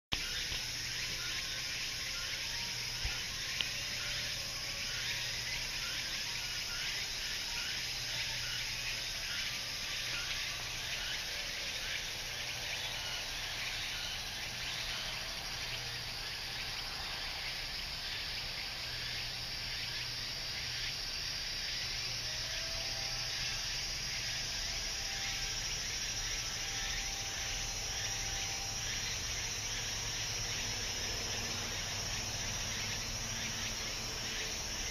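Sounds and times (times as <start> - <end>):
insects buzzing chorus: 0.1 - 34.9
mosquitoes whining: 0.2 - 34.9.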